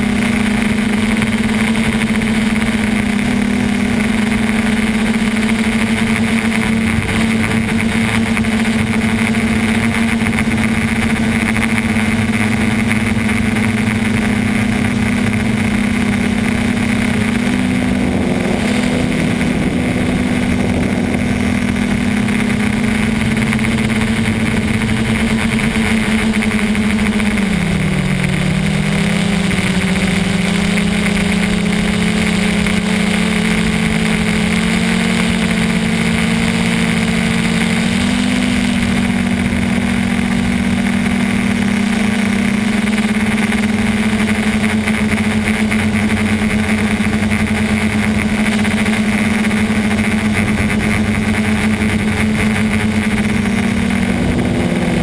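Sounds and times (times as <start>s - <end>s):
drone motors and propellers humming: 0.0s - 55.0s.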